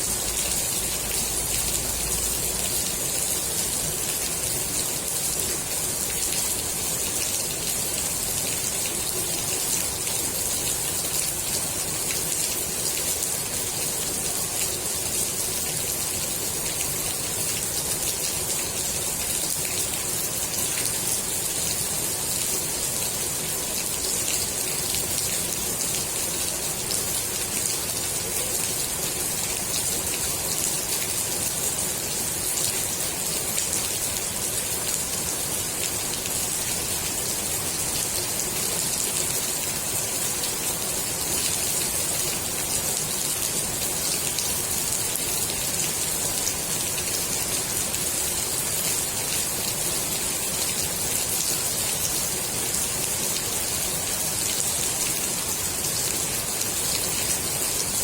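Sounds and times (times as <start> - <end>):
rain falling on pool water: 0.0 - 58.0.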